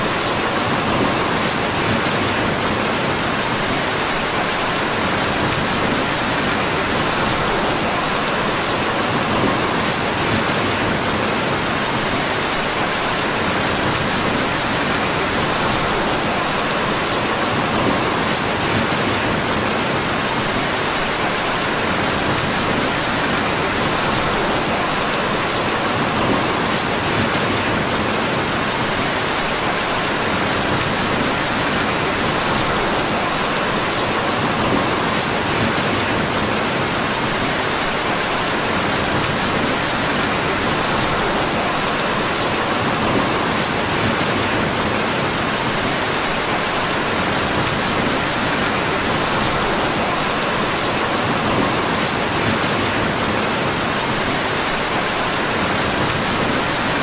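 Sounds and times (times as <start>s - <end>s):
dense rainfall hiss: 0.0s - 57.0s.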